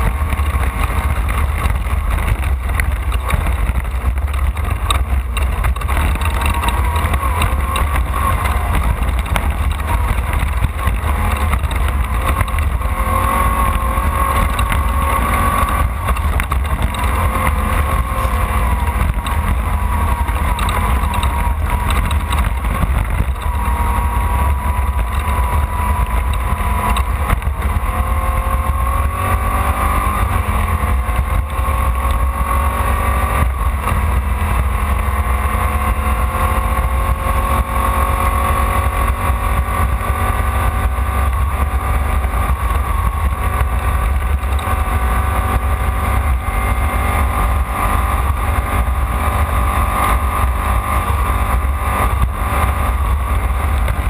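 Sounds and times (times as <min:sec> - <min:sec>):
heavy low rumble: 0:00.0 - 0:54.0
race car engine revving: 0:00.0 - 0:54.0.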